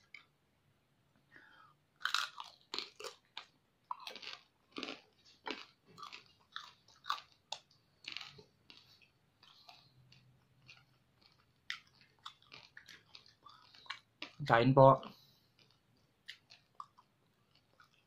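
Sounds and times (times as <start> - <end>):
person chewing crunchy food: 2.0 - 18.0.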